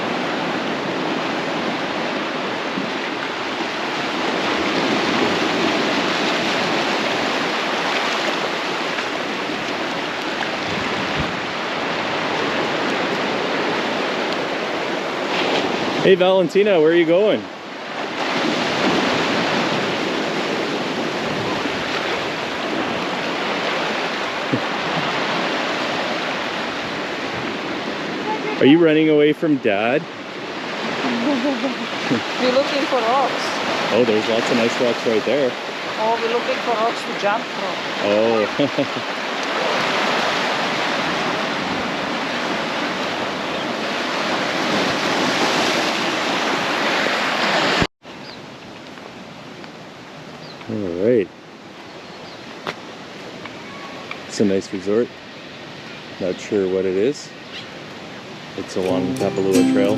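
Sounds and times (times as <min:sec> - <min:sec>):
ocean waves washing on beach: 0:00.0 - 0:59.9.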